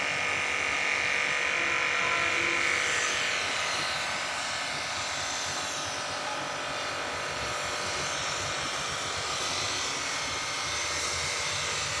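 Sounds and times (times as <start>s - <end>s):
pressure washer motor whine: 0.0s - 12.0s
water jet hissing: 2.3s - 12.0s.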